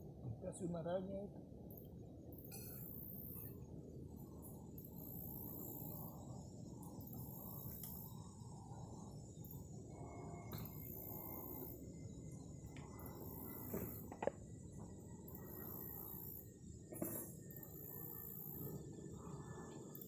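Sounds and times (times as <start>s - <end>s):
insects trilling: 2.7s - 20.0s.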